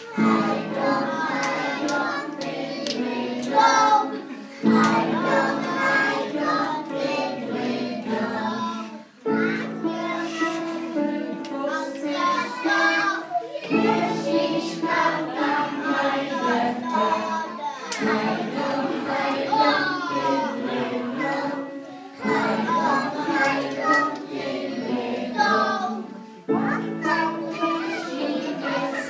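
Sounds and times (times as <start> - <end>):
children singing: 0.0 - 29.0.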